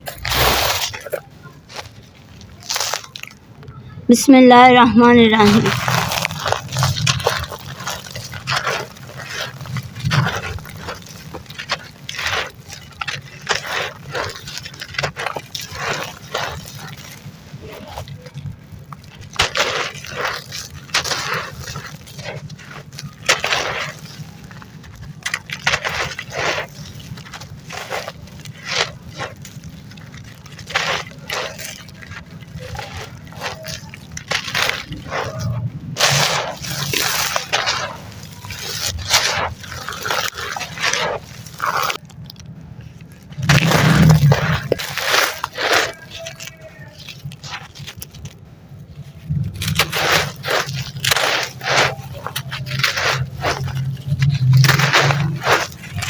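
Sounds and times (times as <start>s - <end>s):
gritty crunches of crumbling cement: 0.0s - 56.0s.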